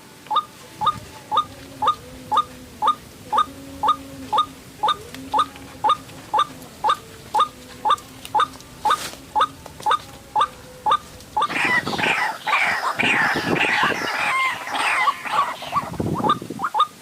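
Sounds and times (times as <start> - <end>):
birds harsh croaking calls: 0.4 - 17.0.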